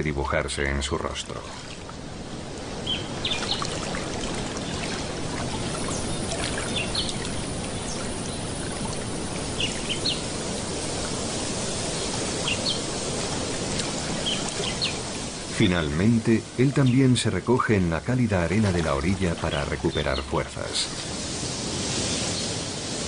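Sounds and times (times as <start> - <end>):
water trickling and lapping: 0.0 - 23.0.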